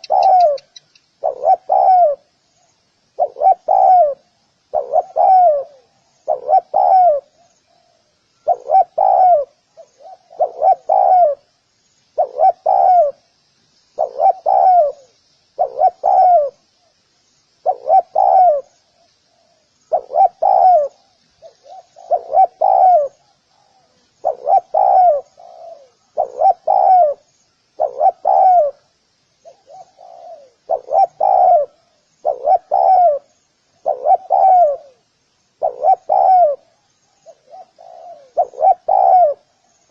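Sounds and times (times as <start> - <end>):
dove cooing: 0.0 - 2.3, 3.1 - 11.5, 12.2 - 13.3, 14.0 - 16.6, 17.6 - 39.9
faint high chirping: 0.0 - 39.9.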